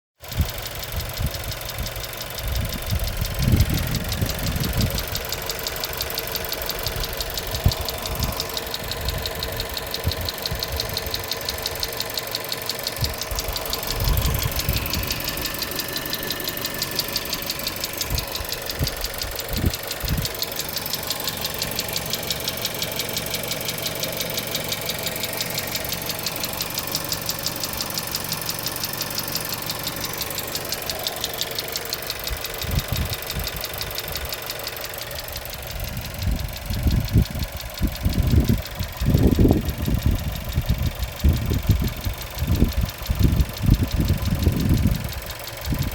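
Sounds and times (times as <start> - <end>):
car engine ticking knock: 0.2 - 45.9.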